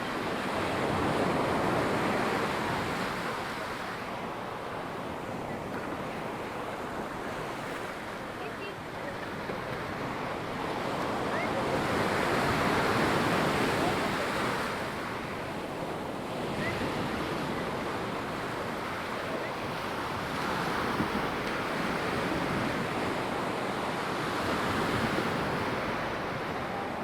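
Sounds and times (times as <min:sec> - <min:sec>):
ocean surf on sandy beach: 0:00.0 - 0:27.0
wind: 0:00.0 - 0:27.0.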